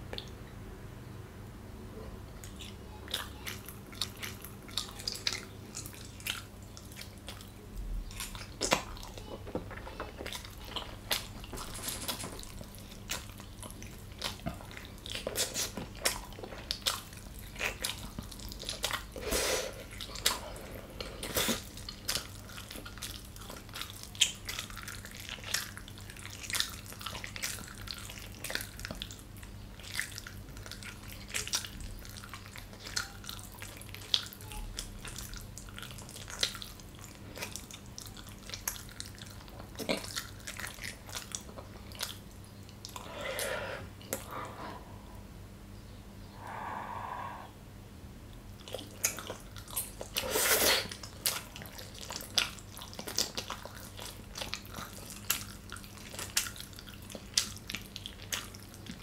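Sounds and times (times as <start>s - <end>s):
close chewing with mouth clicks: 0.0s - 0.6s, 2.3s - 44.7s, 48.3s - 59.0s.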